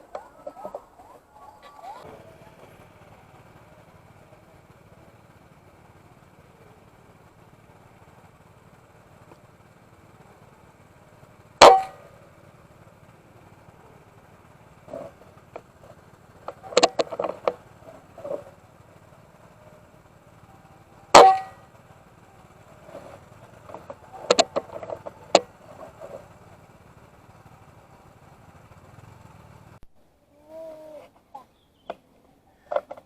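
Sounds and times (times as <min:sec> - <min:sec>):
low hum: 0:00.0 - 0:30.2.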